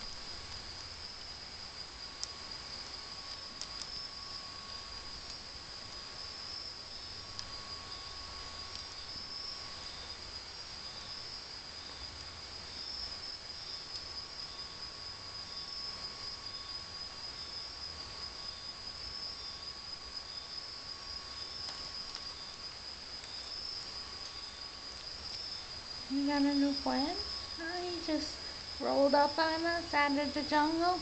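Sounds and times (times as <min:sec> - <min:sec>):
night insects trilling: 0:00.0 - 0:31.0
thin steady whine: 0:00.0 - 0:31.0.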